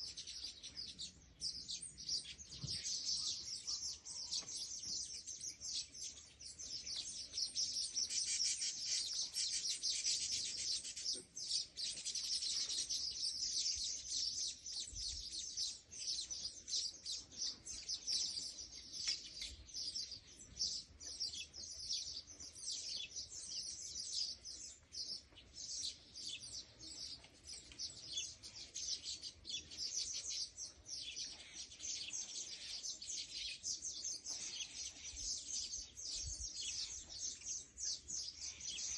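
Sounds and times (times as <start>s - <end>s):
birds chirping rapidly: 0.0s - 38.9s.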